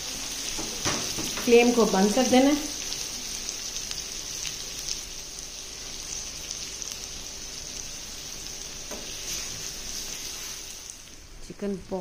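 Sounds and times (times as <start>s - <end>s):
food sizzling on a griddle: 0.0s - 11.3s.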